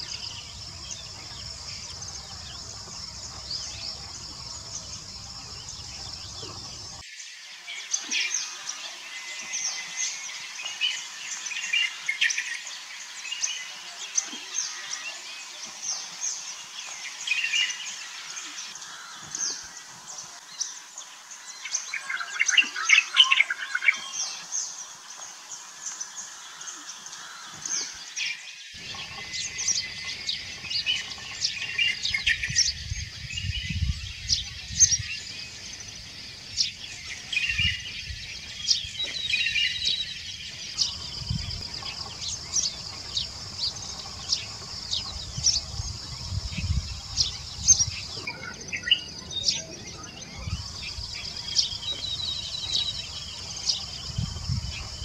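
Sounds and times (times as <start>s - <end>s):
steady high hiss: 0.0s - 48.3s
birds chirping: 0.0s - 55.0s.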